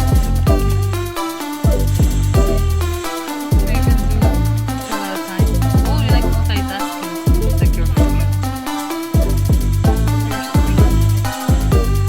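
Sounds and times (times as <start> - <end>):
deep kick drum beat: 0.0 - 12.0
sustained synth notes: 0.0 - 12.0.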